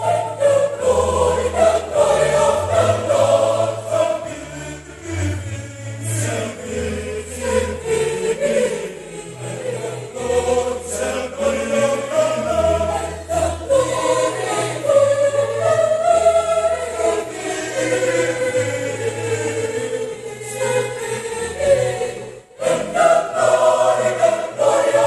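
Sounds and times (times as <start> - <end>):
mixed choir singing: 0.0 - 25.0.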